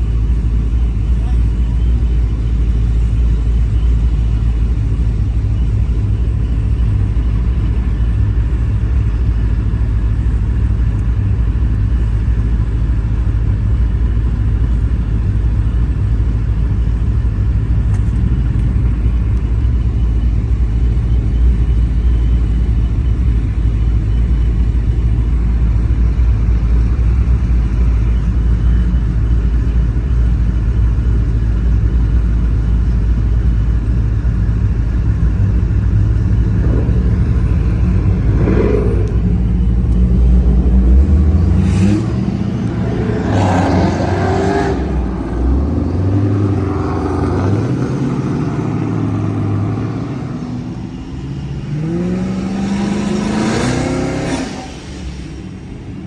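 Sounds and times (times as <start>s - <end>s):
car engine low rumble: 0.0s - 56.0s.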